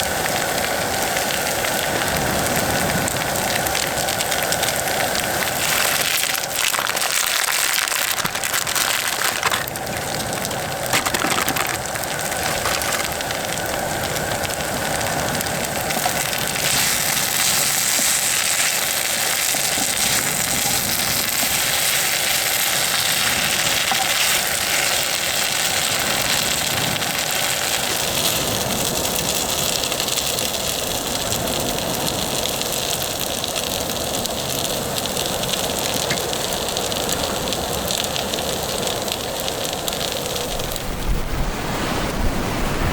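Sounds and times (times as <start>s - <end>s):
food sizzling in a pan: 0.0s - 39.1s.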